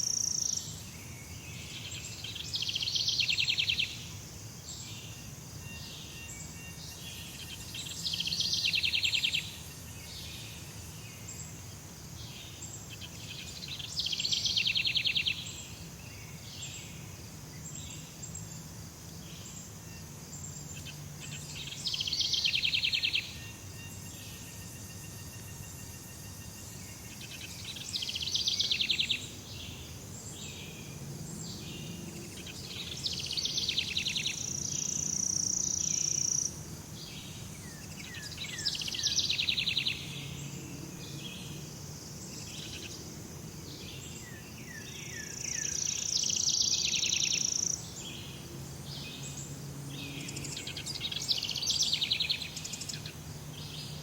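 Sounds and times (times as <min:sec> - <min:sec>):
insects and birds: 0:00.0 - 0:54.0.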